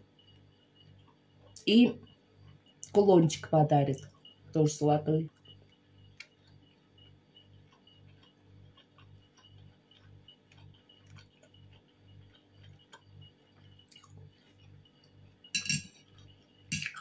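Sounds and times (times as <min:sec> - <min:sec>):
faint low pulsing with ticks: 0:00.0 - 0:16.9.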